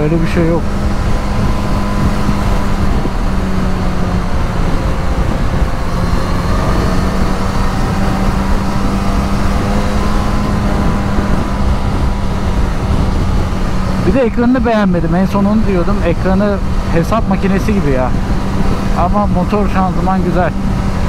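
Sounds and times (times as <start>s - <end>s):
motorcycle engine cruising: 0.0s - 21.0s
wind and road noise: 0.0s - 21.0s.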